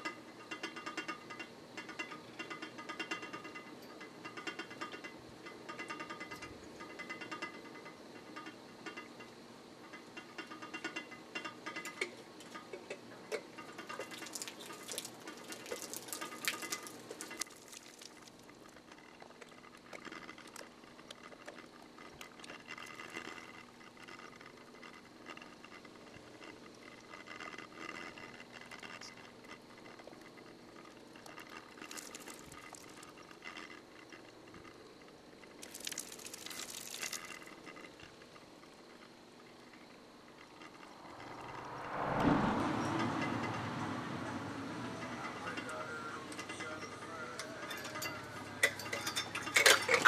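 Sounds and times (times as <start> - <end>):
raccoon scratching and rattling metal: 0.0 - 41.4, 42.8 - 50.0.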